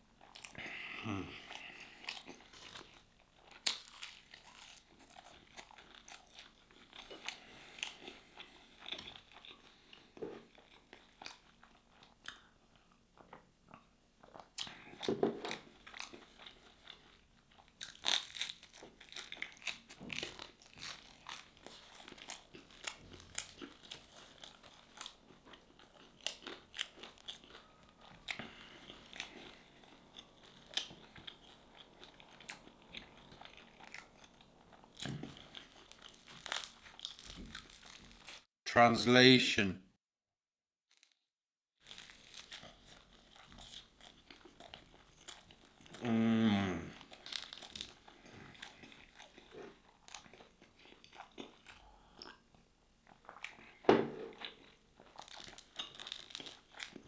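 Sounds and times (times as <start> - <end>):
person chewing crunchy food: 0.0 - 38.5, 41.8 - 57.0.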